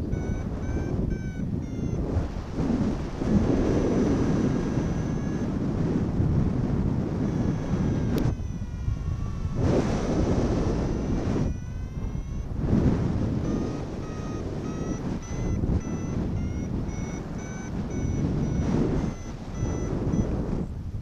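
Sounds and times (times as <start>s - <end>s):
variometer electronic tone: 0.0s - 20.7s
strong wind on microphone: 0.0s - 21.0s.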